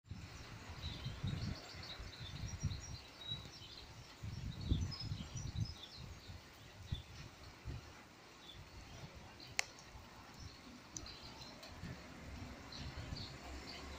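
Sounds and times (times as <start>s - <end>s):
small birds chirping: 0.1s - 13.9s.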